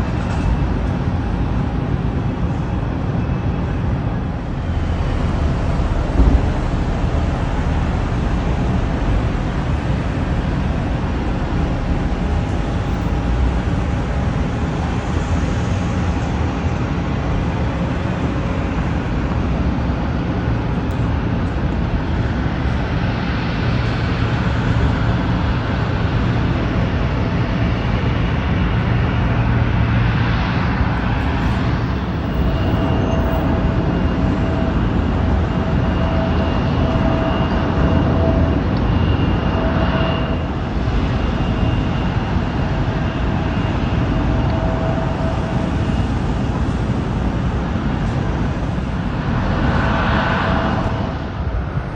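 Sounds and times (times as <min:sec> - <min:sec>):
thin steady whine: 0:00.0 - 0:23.0, 0:30.2 - 0:51.7
jet engines rumbling: 0:00.0 - 0:51.9.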